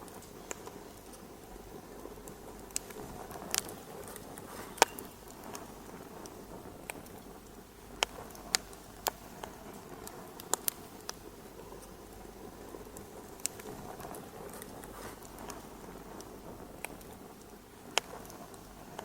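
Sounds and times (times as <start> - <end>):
sharp pops from fire: 0.0 - 19.0
wood fire crackling: 0.0 - 19.0.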